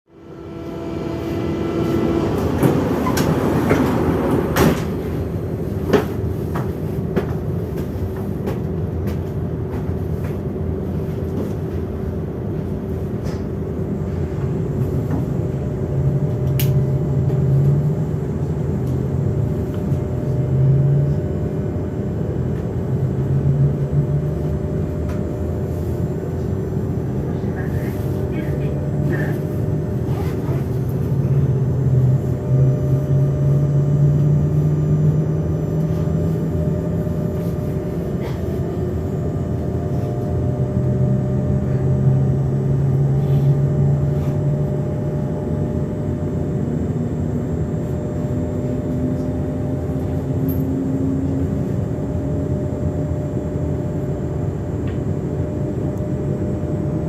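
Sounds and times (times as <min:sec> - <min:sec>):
low motor tone: 0:00.1 - 0:06.0, 0:12.8 - 0:57.0
electric train hum and rumble: 0:00.1 - 0:57.0.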